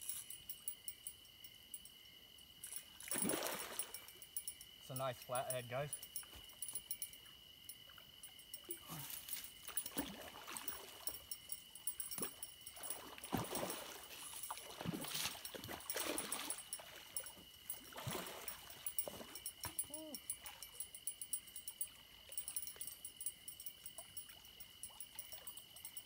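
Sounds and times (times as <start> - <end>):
high insect drone: 0.0 - 26.0
water splashing and swishing: 2.6 - 7.2, 7.8 - 26.0.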